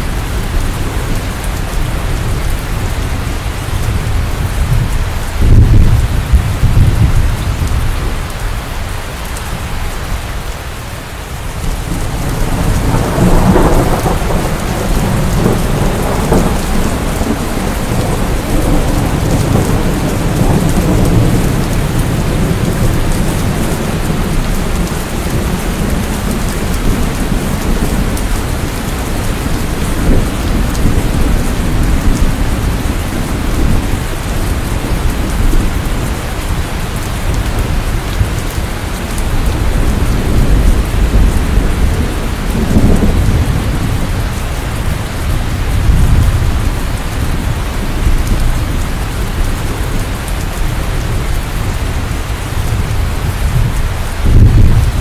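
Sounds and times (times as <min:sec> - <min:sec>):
thunder rumbling: 0:00.0 - 0:08.4, 0:11.5 - 0:55.0
steady rain: 0:00.0 - 0:55.0.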